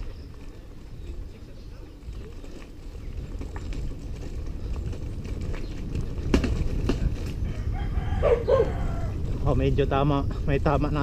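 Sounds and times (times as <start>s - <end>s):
bicycle tyres crunching on gravel: 0.0s - 11.0s
bike knocking and rattling: 0.0s - 11.0s
low wind rumble: 0.0s - 11.0s.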